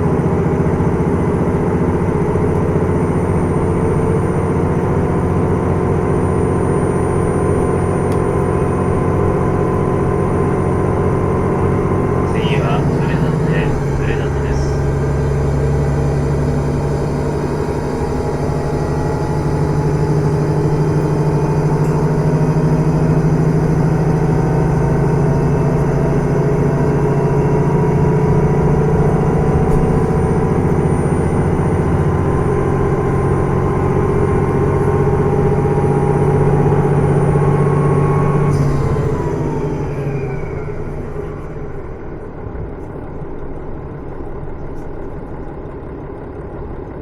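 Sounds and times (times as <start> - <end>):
diesel engine droning: 0.0 - 47.0.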